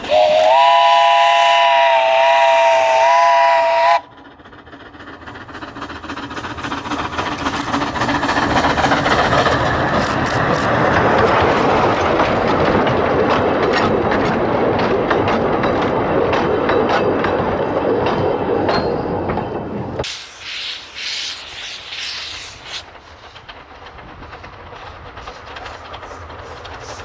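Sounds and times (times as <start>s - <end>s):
train passing: 0.0s - 27.0s
wheels clicking over rails: 2.3s - 20.1s, 20.8s - 27.0s.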